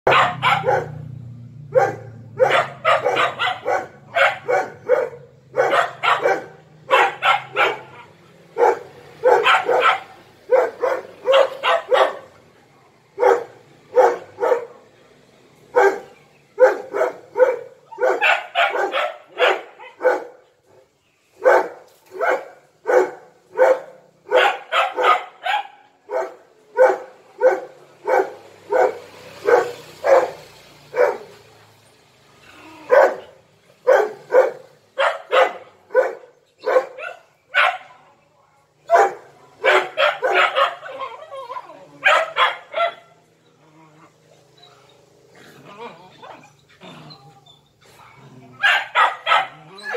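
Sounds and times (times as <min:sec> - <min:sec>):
dogs barking: 0:00.0 - 0:12.4, 0:13.2 - 0:14.9, 0:15.7 - 0:20.5, 0:21.4 - 0:31.4, 0:32.8 - 0:38.0, 0:38.8 - 0:43.3, 0:48.5 - 0:49.9.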